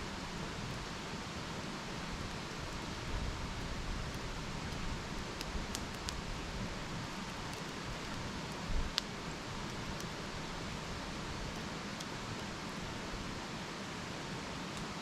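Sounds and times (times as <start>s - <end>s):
campfire crackling: 0.0s - 15.0s
fire popping: 0.1s - 13.1s.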